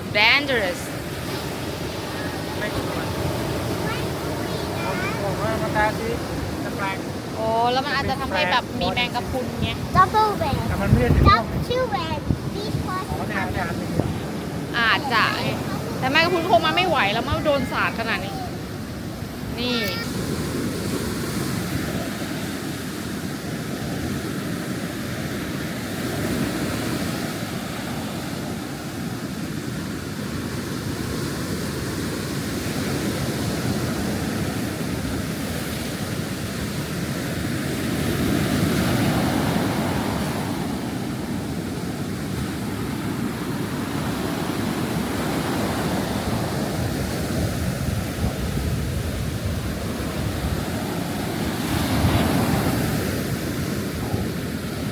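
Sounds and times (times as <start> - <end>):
sea surf washing onto beach: 0.0 - 54.9.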